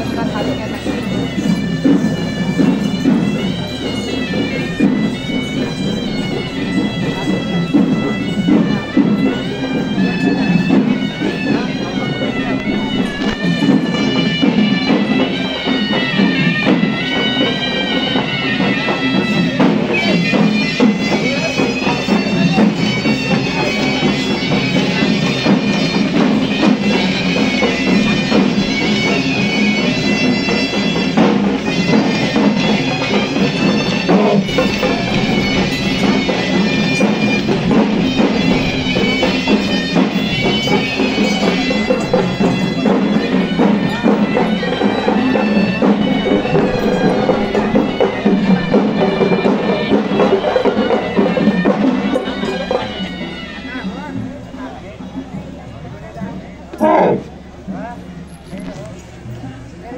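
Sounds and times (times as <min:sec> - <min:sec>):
shrill reed pipe melody: 0:00.0 - 0:55.5
drumming: 0:00.0 - 0:58.2.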